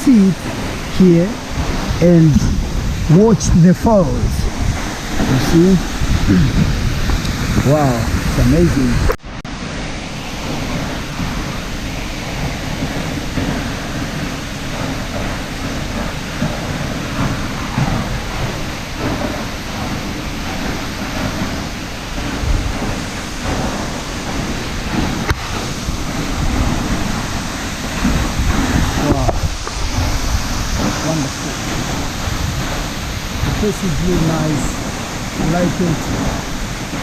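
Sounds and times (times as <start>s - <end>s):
rushing hiss of open air: 0.0s - 37.0s
wind buffeting microphone: 0.0s - 37.0s.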